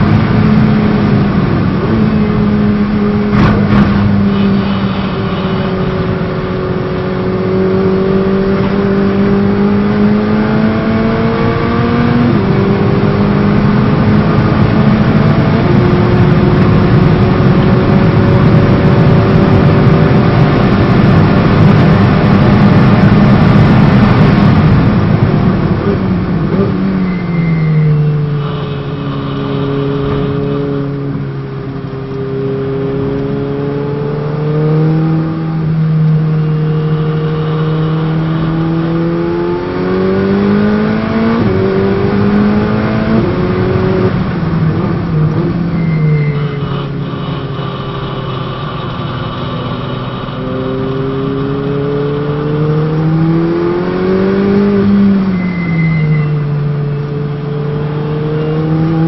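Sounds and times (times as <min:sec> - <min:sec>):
race car engine: 0:00.0 - 0:59.0.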